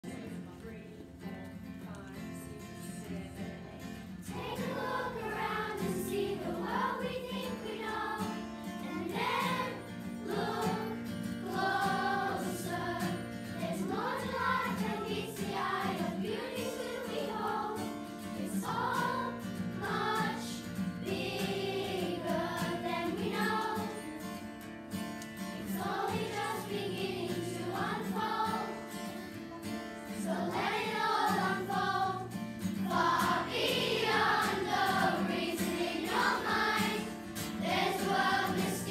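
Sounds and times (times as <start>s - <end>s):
children's choir singing: 3.3s - 24.5s, 25.4s - 38.9s.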